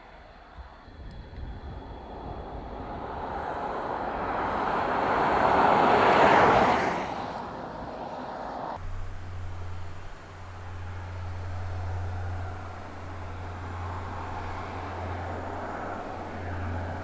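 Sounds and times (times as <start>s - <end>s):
steady low hum: 0.0s - 5.6s, 8.8s - 17.0s
car driving past: 0.6s - 17.0s.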